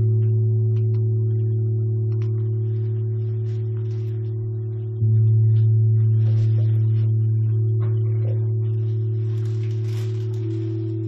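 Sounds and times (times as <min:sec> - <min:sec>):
ambient electronic music: 0:00.0 - 0:11.0.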